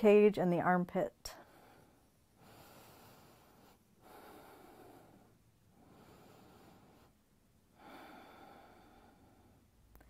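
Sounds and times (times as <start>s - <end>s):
faint slow breathing: 1.3s - 9.9s.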